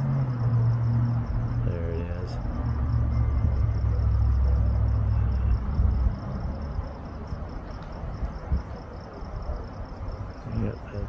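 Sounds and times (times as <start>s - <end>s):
crickets chirping: 0.0s - 11.0s
low rumble on microphone: 0.0s - 11.0s.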